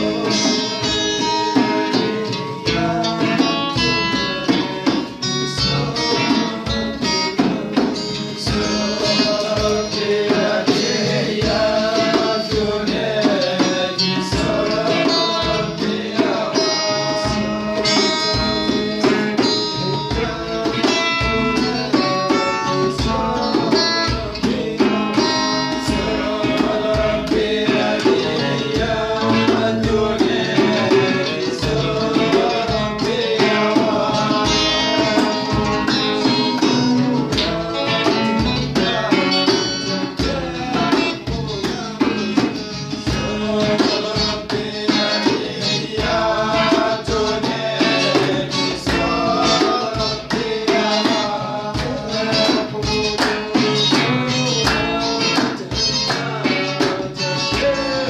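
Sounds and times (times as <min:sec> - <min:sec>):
acoustic guitars: 0:00.0 - 0:58.0
hand drum beat: 0:00.0 - 0:58.0
man singing: 0:00.0 - 0:58.0.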